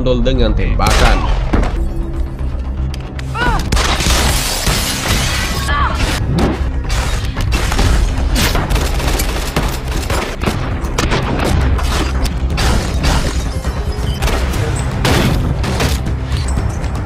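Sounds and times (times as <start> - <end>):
loud action film music: 0.0 - 17.0.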